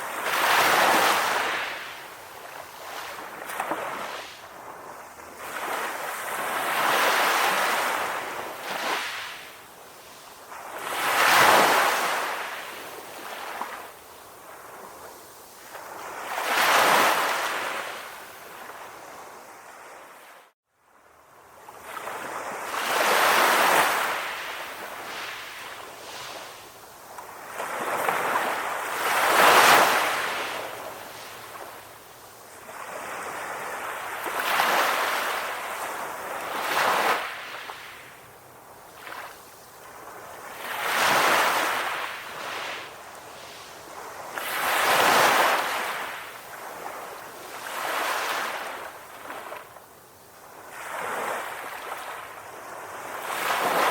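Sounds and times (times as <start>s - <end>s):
ocean waves washing ashore: 0.0s - 53.9s.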